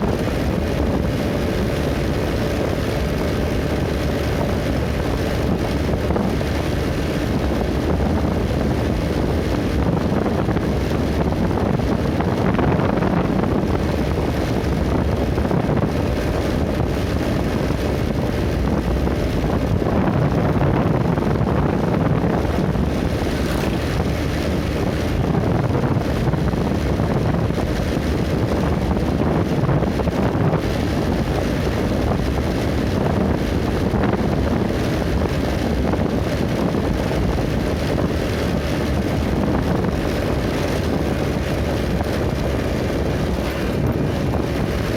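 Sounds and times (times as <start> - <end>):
road and engine rumble: 0.0 - 44.9
wind rushing over microphone: 0.0 - 44.9.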